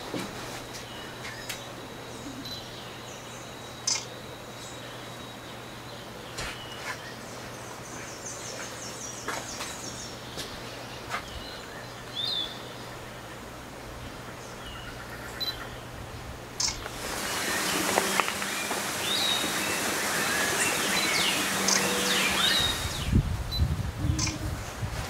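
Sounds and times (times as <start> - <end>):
birds chirping: 0.0 - 24.8.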